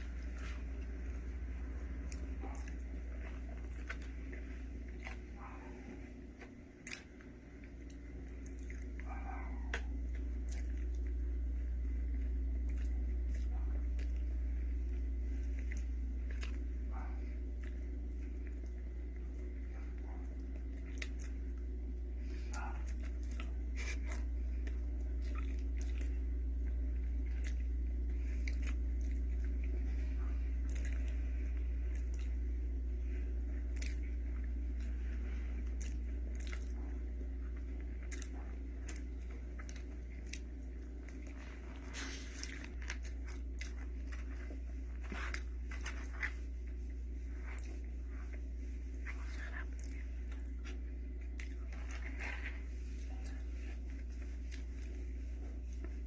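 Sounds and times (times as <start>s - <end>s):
person chewing food: 0.0s - 56.0s
steady low hum: 0.0s - 56.0s.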